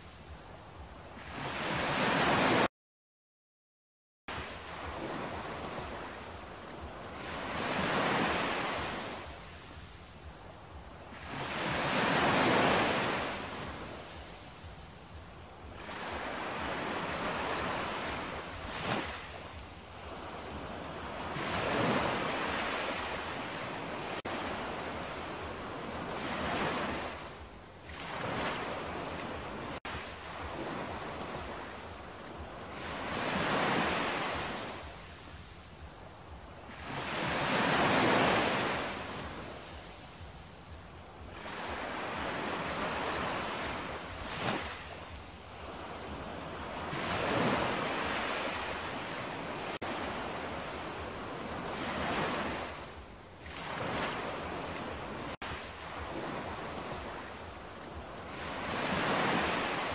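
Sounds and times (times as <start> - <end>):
ocean waves breaking on shore: 0.0 - 2.7, 4.3 - 59.9.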